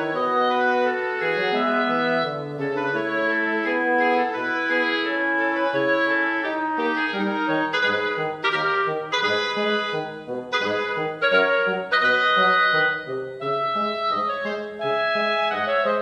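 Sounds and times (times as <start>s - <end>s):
instrumental background music: 0.0s - 16.0s.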